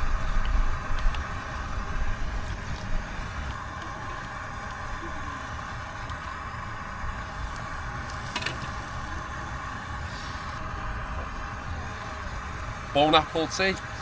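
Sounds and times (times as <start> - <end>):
steady hum: 0.0 - 14.0
wind buffeting microphone: 0.0 - 14.0.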